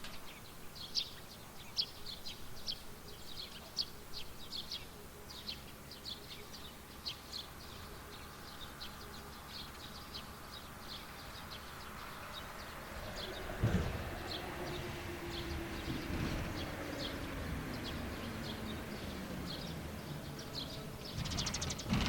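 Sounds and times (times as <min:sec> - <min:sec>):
low rural background: 0:00.0 - 0:22.0
small birds chirping: 0:00.0 - 0:22.0.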